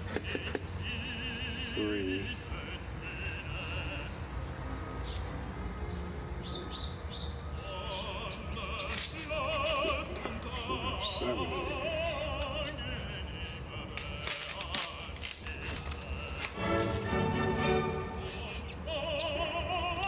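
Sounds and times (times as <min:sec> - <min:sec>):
operatic singing: 0:00.0 - 0:04.8, 0:07.4 - 0:20.0.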